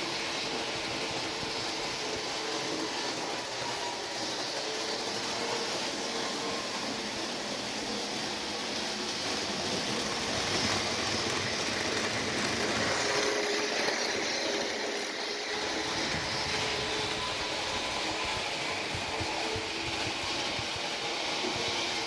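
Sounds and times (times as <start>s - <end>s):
train rolling by: 0.0s - 22.0s.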